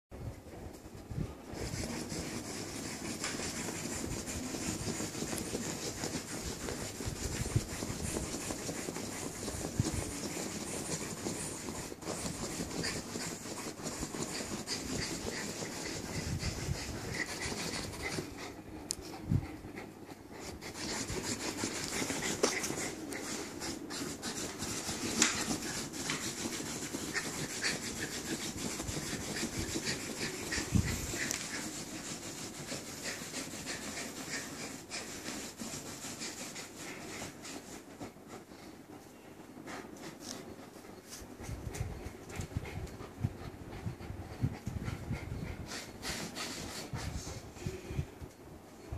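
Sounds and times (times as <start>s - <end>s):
dog paws scratching bedsheet: 0.6s - 19.6s, 20.3s - 39.0s, 39.6s - 47.4s.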